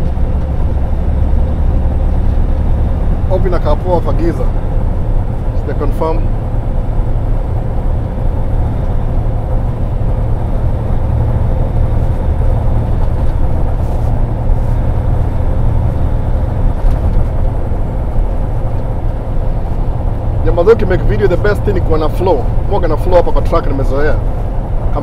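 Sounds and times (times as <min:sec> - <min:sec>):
road noise: 0:00.0 - 0:25.0
truck diesel engine rumble: 0:00.0 - 0:25.0.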